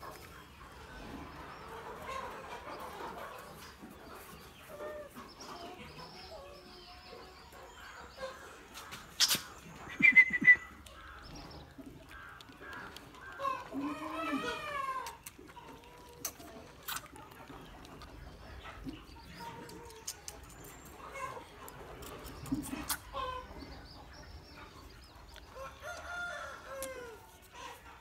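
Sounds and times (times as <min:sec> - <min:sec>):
chickens clucking: 0:00.0 - 0:28.0
small birds chirping: 0:00.0 - 0:28.0.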